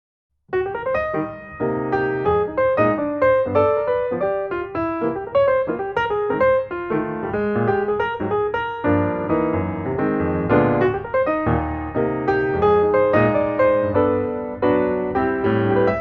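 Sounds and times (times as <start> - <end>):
piano melody with chords: 0.5 - 16.0.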